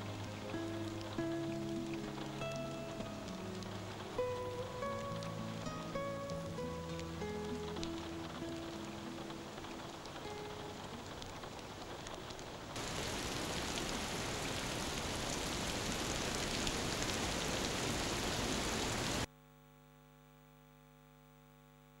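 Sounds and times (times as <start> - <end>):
heavy rain: 0.0 - 19.3.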